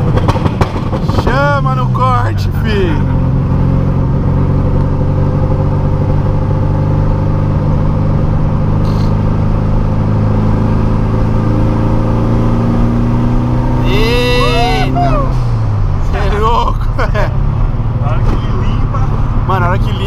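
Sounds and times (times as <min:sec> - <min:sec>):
car engine drone from cabin: 0:00.9 - 0:20.0.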